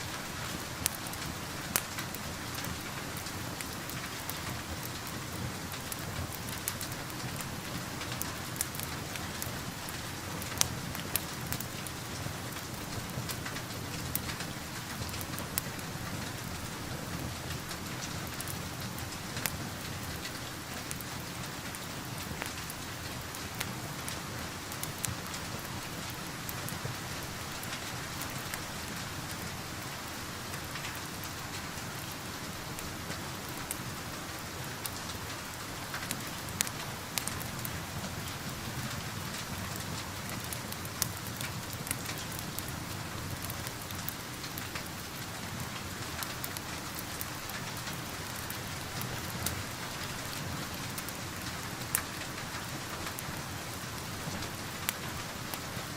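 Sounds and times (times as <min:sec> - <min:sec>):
steady rain hiss: 0:00.0 - 0:55.9
wood fire crackling and popping: 0:00.0 - 0:55.9.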